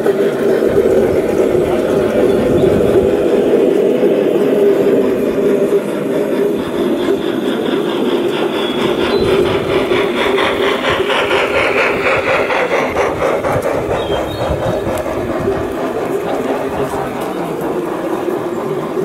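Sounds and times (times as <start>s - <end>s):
model train wheels rumbling: 0.0s - 19.0s
rapid regular clicking of wheels: 0.0s - 19.0s.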